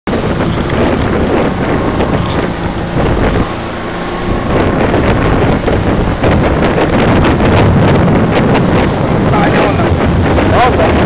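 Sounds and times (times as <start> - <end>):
choppy water wash: 0.1 - 11.0
outboard motor drone: 0.1 - 11.0
wind buffeting microphone: 0.1 - 11.0.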